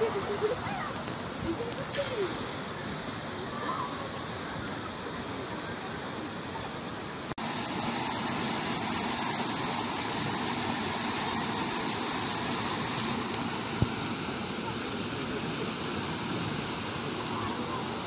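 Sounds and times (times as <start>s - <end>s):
water rushing over weirs: 0.0s - 18.0s.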